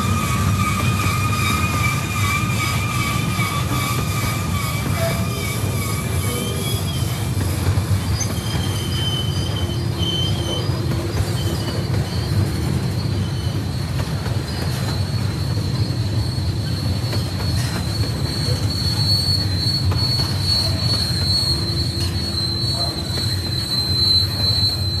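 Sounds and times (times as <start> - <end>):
high wheel squeal: 0.0 - 25.0.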